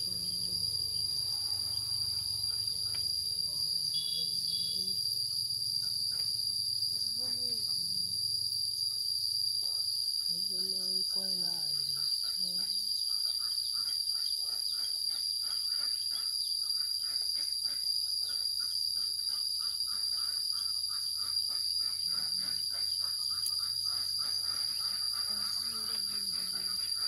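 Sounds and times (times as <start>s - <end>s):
insect high-pitched drone: 0.0s - 27.0s
rapid insect chirps: 0.0s - 27.0s.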